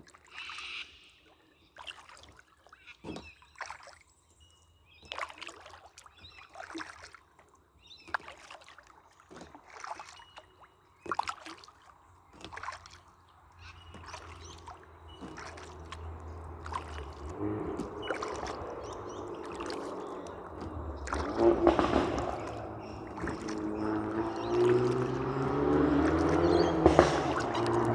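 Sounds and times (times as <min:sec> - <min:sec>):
paddle splashing in water: 0:00.0 - 0:27.9
water lapping: 0:00.0 - 0:27.9.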